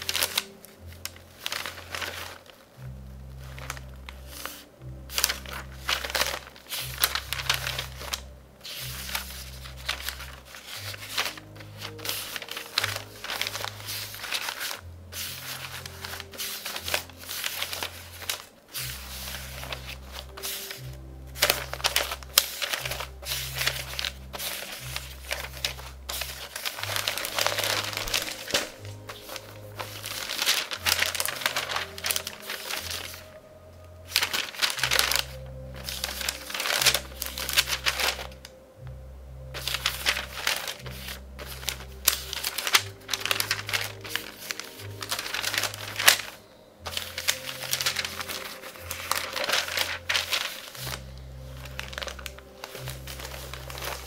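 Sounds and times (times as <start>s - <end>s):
newspaper pages rustling: 0.0s - 38.6s, 39.5s - 54.0s
soft background music: 0.0s - 54.0s.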